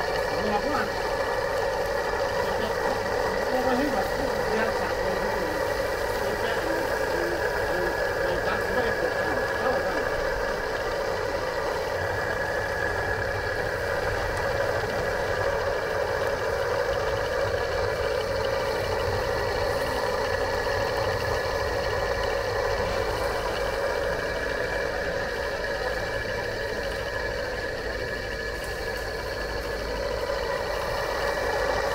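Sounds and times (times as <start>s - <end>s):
steady mechanical hum: 0.0s - 31.9s.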